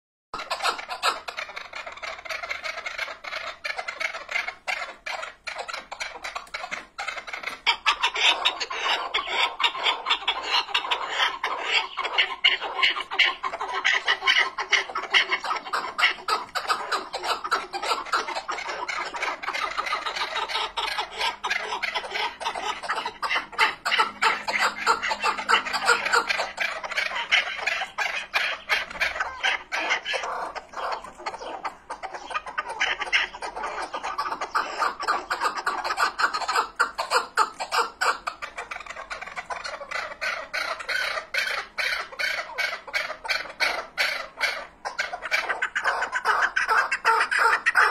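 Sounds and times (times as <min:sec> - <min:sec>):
partridge calling rapid notes: 0:00.4 - 0:47.9.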